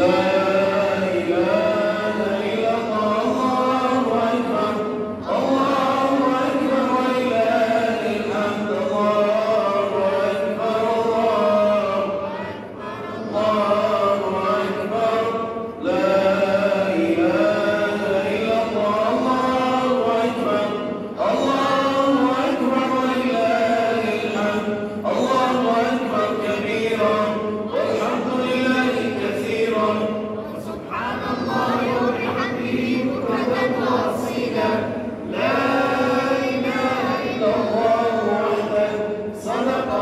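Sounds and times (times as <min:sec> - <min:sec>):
man chanting: 0:00.0 - 0:40.0.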